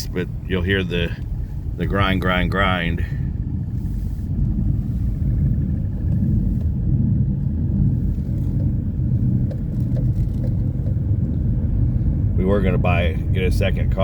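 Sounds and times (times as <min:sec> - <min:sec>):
car running gear grinding rumble: 0:00.0 - 0:14.0.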